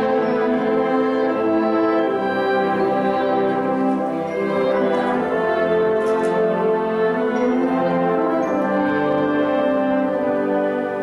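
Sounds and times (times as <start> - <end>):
wind band playing chords: 0.0 - 11.0.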